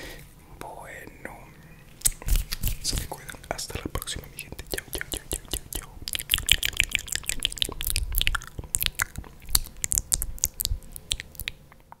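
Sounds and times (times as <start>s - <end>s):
chewing with wet mouth clicks: 2.0s - 12.0s.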